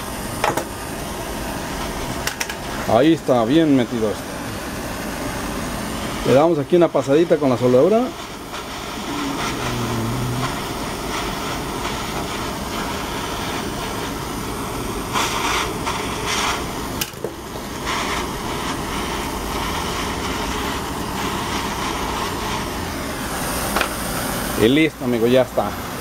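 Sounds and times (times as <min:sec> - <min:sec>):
gas torch hissing: 0:00.0 - 0:26.0.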